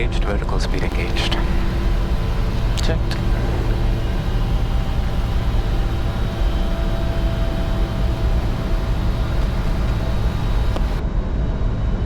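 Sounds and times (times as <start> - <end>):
cockpit airflow and engine rumble: 0.0 - 12.0.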